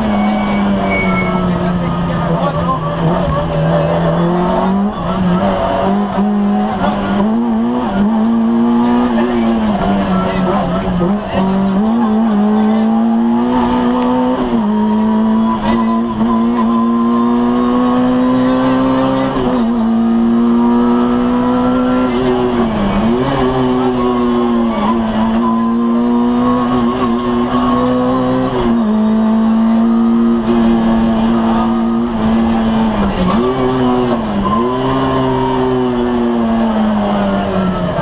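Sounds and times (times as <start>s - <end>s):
car engine revving high: 0.0s - 38.0s.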